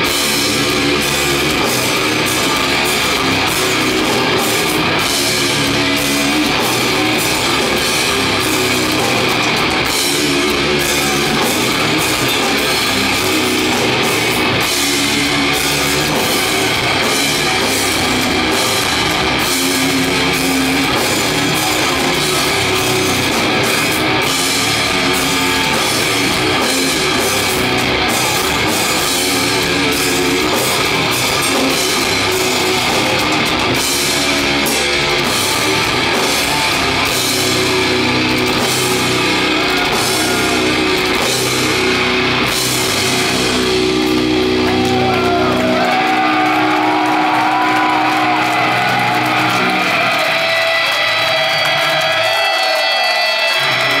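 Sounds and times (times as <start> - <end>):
bass guitar: 0.0 - 54.0
distorted electric guitars: 0.0 - 54.0
pounding drum kit: 0.0 - 54.0.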